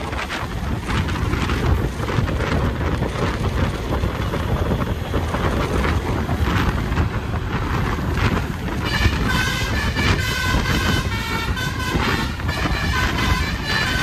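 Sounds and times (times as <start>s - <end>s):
vehicle engine running: 0.0s - 14.0s
wind buffeting microphone: 0.0s - 14.0s.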